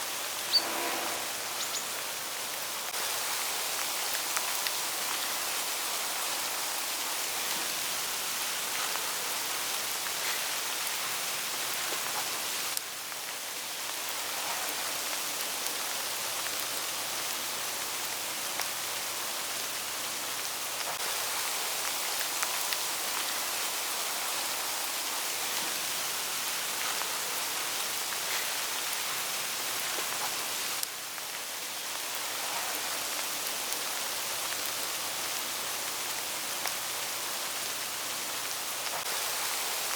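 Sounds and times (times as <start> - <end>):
hail pattering on leaves: 0.1 - 39.9.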